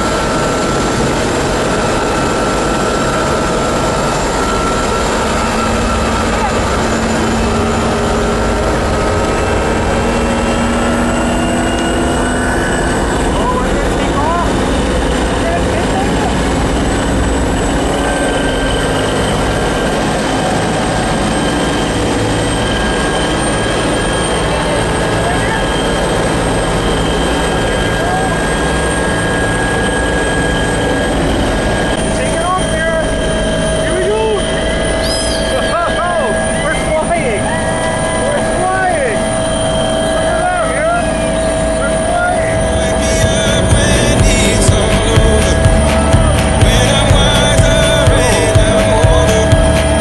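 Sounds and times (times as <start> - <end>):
helicopter engine and rotor drone: 0.0 - 50.0
high whine: 0.0 - 50.0.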